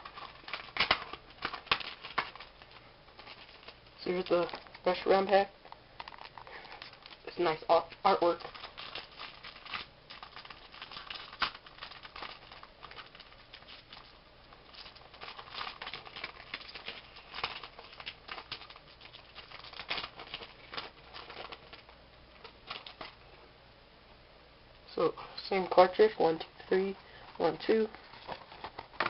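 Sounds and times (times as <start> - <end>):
foil wrapper crinkling: 0.0 - 23.3.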